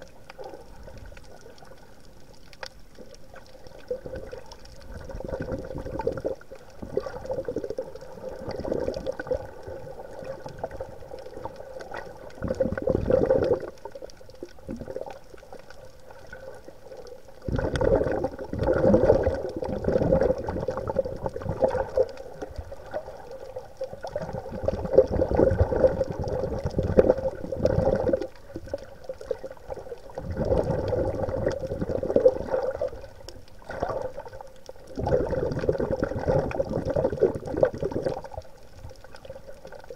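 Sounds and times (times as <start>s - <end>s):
faint steady hum: 0.0s - 39.9s
water sloshing and gurgling: 0.0s - 39.9s.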